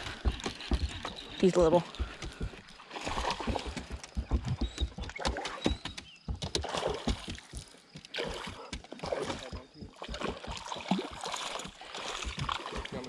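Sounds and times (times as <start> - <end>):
water splashing: 0.0 - 5.7, 6.5 - 13.0
knocks and clatter on boat: 0.0 - 13.0.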